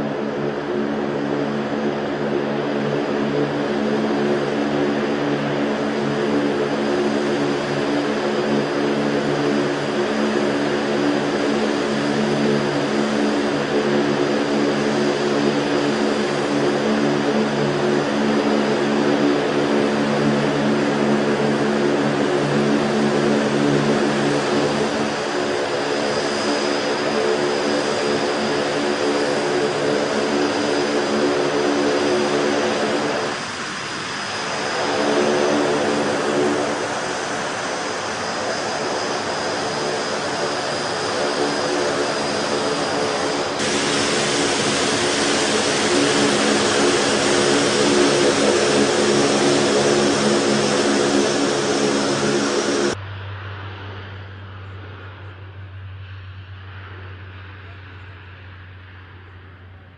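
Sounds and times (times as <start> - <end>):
aircraft engines droning: 0.0 - 59.9
high engine whine: 0.0 - 59.9.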